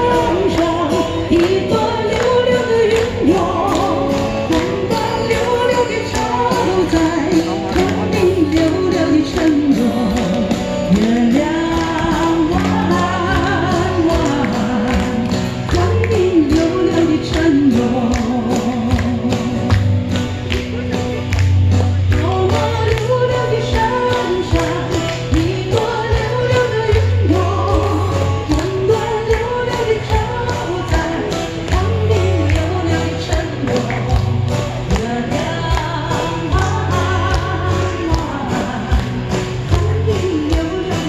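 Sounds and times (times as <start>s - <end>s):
woman singing into a microphone: 0.0s - 19.9s, 22.0s - 41.0s
guitar: 0.0s - 41.0s.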